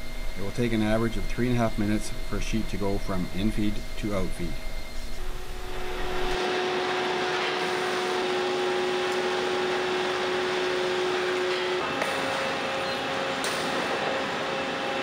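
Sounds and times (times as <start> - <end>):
fans and roller conveyors: 0.0 - 15.0
steady humming tone: 0.0 - 15.0.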